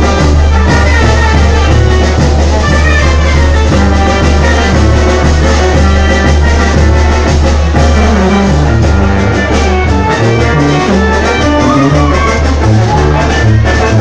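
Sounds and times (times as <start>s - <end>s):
brass band playing dance music: 0.0s - 14.0s.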